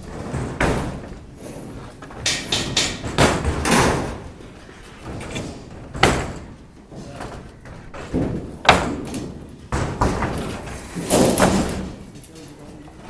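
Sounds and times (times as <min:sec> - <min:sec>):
heavy construction bangs: 0:00.0 - 0:12.1.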